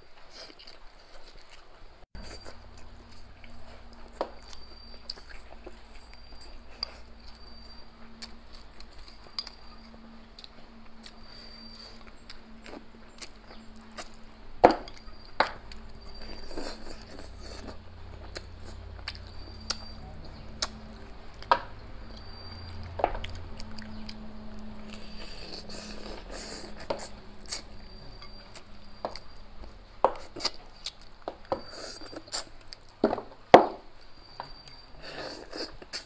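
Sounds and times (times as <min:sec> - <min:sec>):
chewing and sucking: 0:00.2 - 0:33.0, 0:34.6 - 0:36.0.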